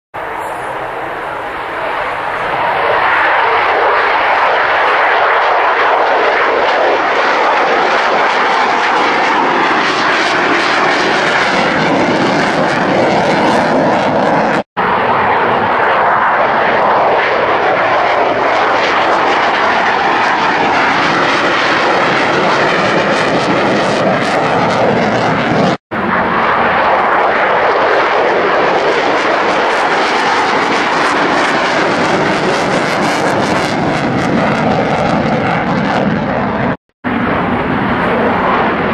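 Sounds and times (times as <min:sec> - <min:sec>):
jet engine roar in flight: 0:00.2 - 0:38.9.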